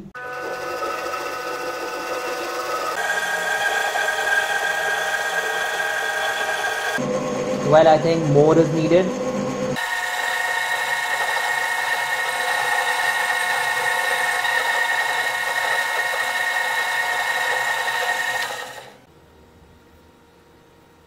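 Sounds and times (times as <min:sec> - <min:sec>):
mini lathe whining: 0:00.0 - 0:19.0.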